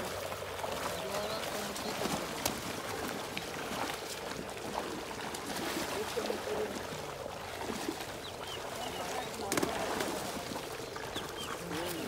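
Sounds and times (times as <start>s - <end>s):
muddy water splashing and sloshing: 0.0s - 12.0s.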